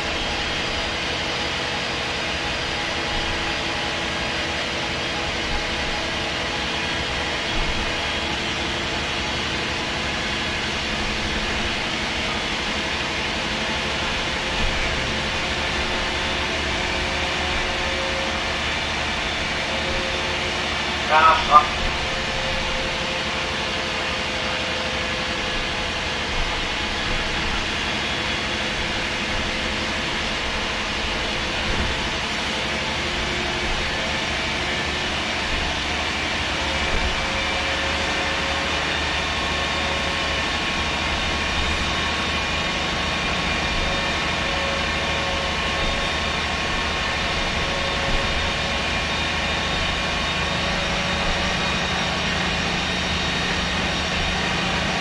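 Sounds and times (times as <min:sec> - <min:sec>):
bus diesel engine drone: 0:00.0 - 0:55.0
drivetrain whine: 0:00.0 - 0:55.0.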